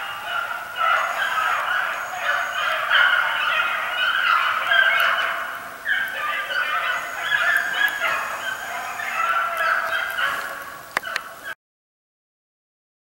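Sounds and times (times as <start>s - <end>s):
chorus of animal calls: 0.0s - 11.6s.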